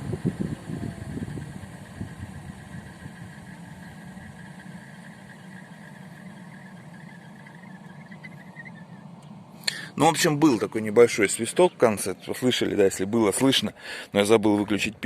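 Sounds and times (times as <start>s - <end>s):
car engine idling: 0.0s - 15.0s
radiator fan high tone: 0.0s - 15.0s.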